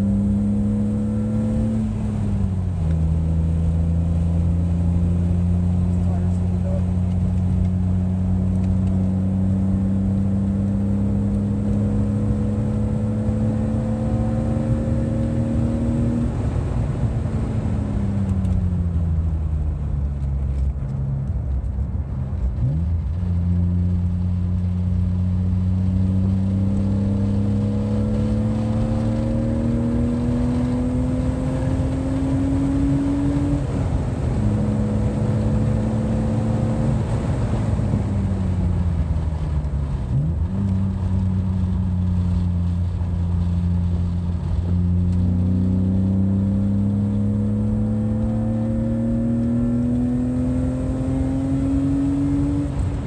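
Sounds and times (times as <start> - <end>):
car engine accelerating: 0.0 - 53.0
road and wind noise: 0.0 - 53.0.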